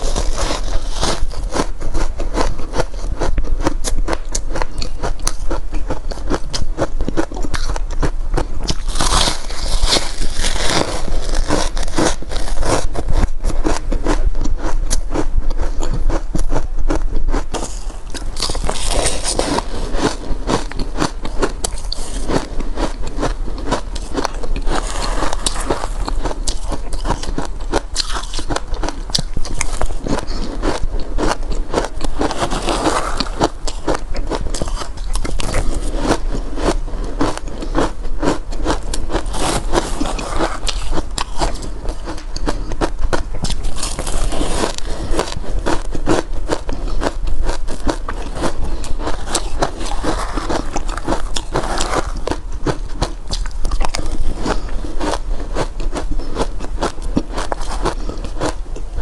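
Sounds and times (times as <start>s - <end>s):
chewing crunchy shaved ice: 0.0s - 59.0s.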